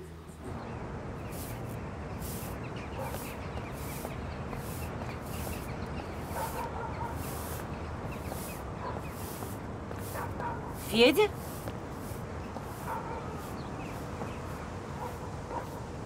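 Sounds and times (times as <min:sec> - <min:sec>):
town traffic hum: 0:00.0 - 0:16.0
small birds chirping: 0:00.5 - 0:16.0.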